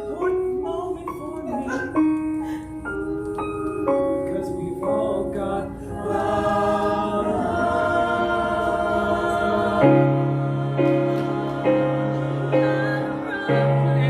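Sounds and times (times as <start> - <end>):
keyboard chords: 0.0 - 14.0
voices singing in harmony: 0.0 - 14.0.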